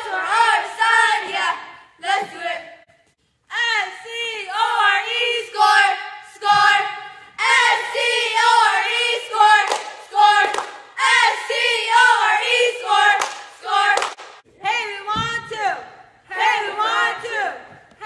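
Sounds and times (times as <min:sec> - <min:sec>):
cheerleaders chanting in unison: 0:00.0 - 0:02.9, 0:03.5 - 0:18.0.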